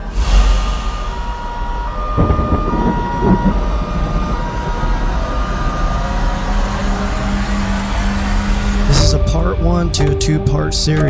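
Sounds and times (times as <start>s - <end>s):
deep rumbling drone: 0.0s - 11.0s
long held music notes: 0.0s - 11.0s.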